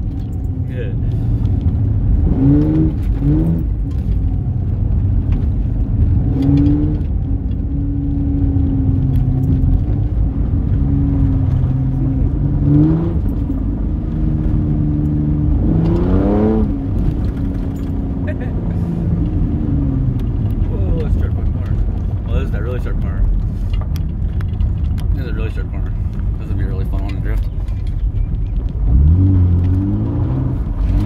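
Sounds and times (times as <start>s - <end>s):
vehicle engine accelerating: 0.0s - 31.0s
tyre rumble on dirt road: 1.2s - 31.0s.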